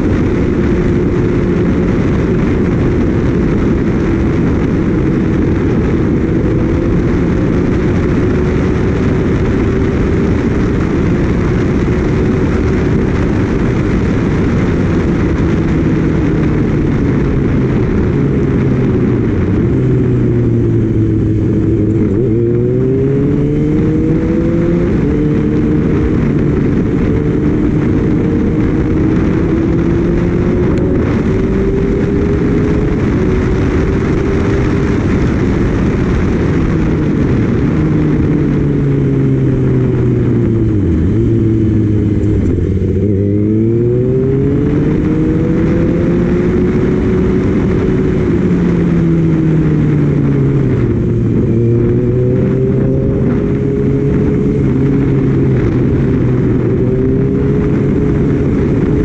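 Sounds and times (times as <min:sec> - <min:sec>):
motorcycle engine at speed: 0:00.0 - 0:59.0
wind noise on microphone: 0:00.0 - 0:59.0.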